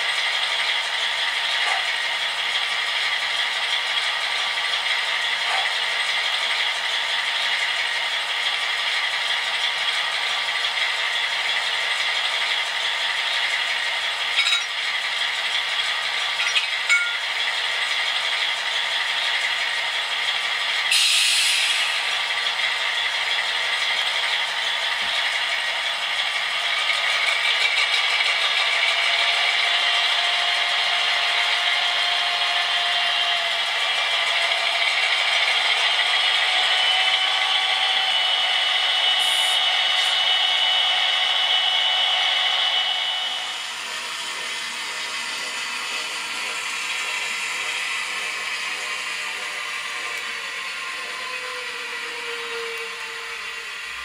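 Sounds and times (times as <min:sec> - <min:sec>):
model diesel engine sound from speaker: 0:00.0 - 0:54.0.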